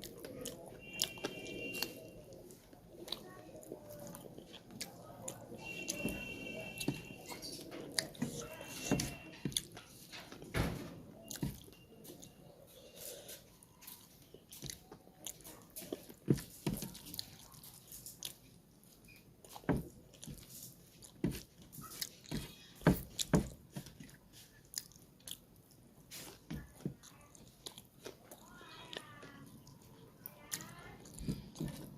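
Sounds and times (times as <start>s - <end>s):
chewing and biting food: 0.0s - 10.2s, 11.2s - 31.9s.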